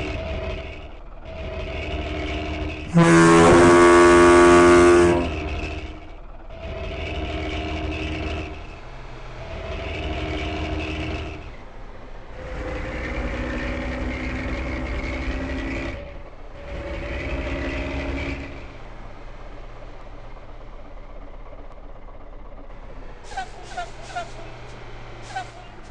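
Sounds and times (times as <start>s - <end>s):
bus engine idling: 0.0s - 25.9s
bus engine revving: 0.0s - 25.9s.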